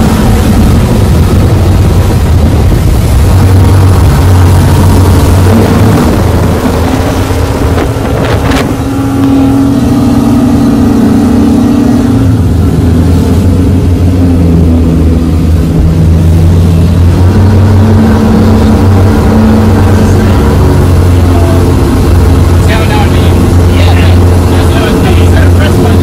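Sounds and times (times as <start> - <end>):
outboard engines droning: 0.0 - 26.0
rushing boat wake: 0.0 - 26.0.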